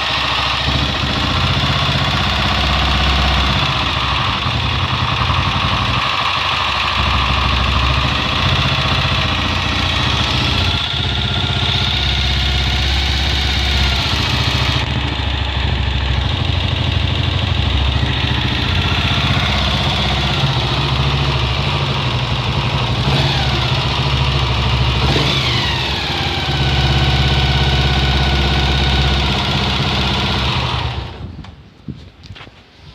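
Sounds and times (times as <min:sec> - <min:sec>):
motorcycle engine idling: 0:00.0 - 0:31.4.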